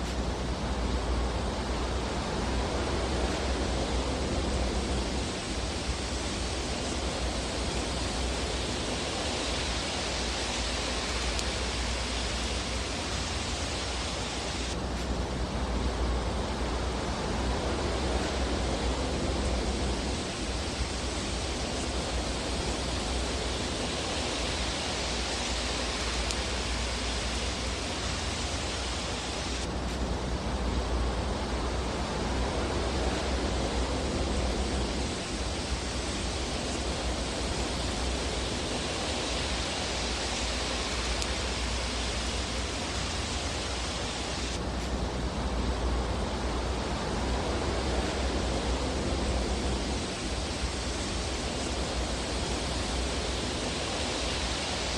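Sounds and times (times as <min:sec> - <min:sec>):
fireplace fire hiss and rumble: 0:00.0 - 0:54.9.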